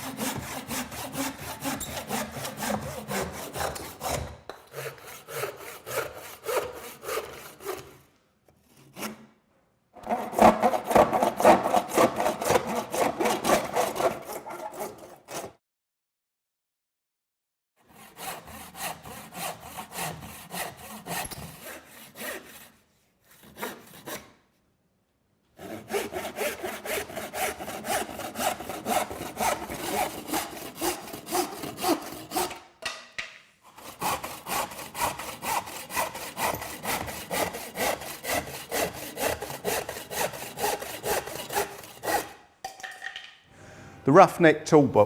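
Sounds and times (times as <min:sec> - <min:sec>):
hand saw cutting: 0:00.0 - 0:09.3, 0:10.0 - 0:15.6, 0:17.8 - 0:24.4, 0:25.6 - 0:32.9, 0:33.6 - 0:42.4.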